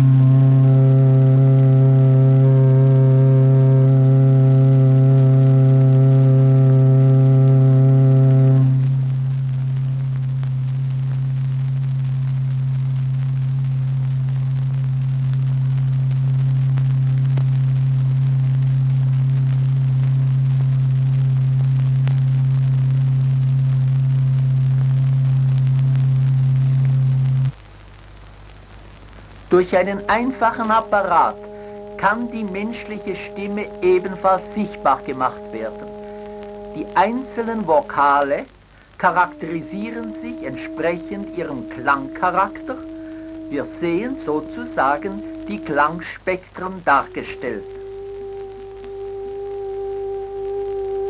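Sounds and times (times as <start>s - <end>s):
vibrating membrane low tone: 0.0s - 13.7s, 14.3s - 27.6s, 29.5s - 51.0s.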